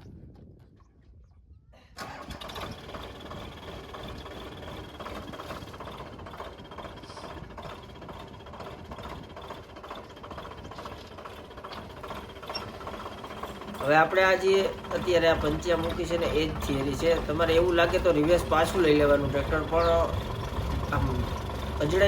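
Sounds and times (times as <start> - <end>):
tractor diesel engine running: 2.0 - 22.0.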